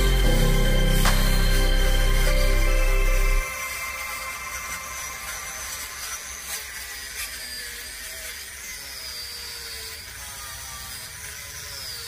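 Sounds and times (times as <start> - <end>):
angle grinder wire brush on wood: 0.0 - 12.0.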